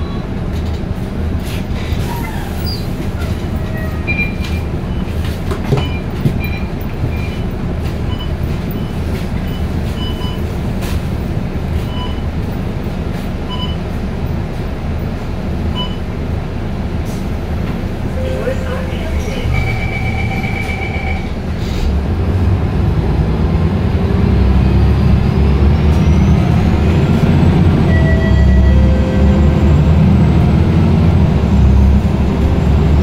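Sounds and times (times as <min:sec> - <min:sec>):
bus drivetrain drone: 0:00.0 - 0:33.0
road noise: 0:00.0 - 0:33.0.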